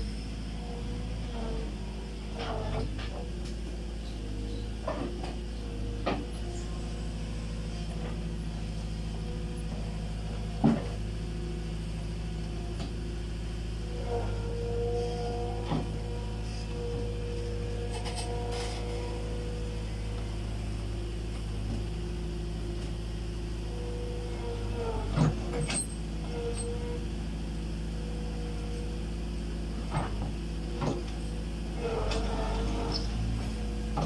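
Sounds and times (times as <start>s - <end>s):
loader engine running: 0.0s - 34.0s.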